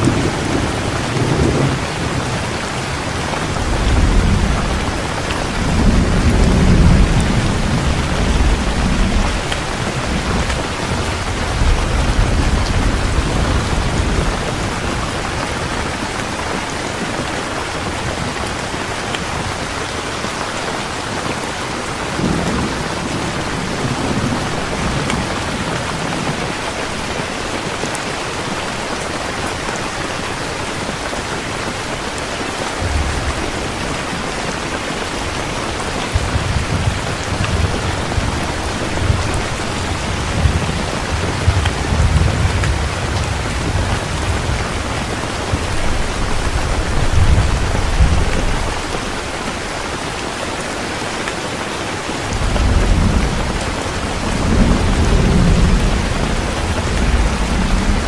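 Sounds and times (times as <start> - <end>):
thunder rumbling: 0.0 - 19.9, 21.8 - 27.5, 32.7 - 50.1, 52.0 - 58.0
heavy rain: 0.0 - 58.0.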